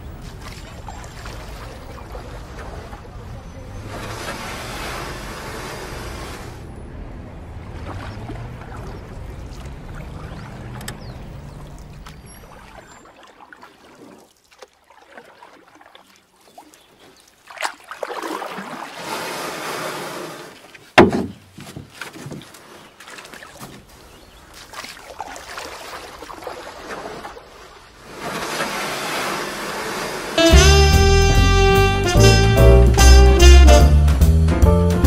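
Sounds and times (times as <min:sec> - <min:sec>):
water rushing along boat hull: 0:00.0 - 0:33.7.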